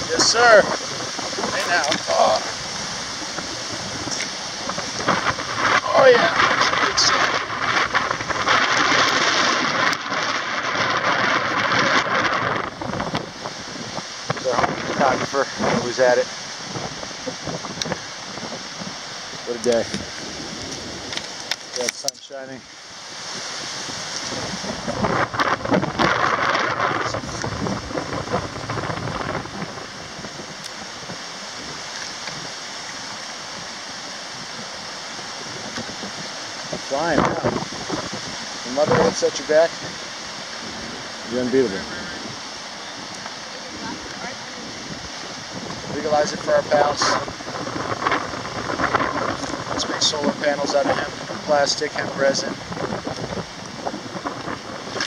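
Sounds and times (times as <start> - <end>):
bicycle tyres hissing over sand: 0.0 - 55.0
wind rushing over microphone: 0.0 - 55.0.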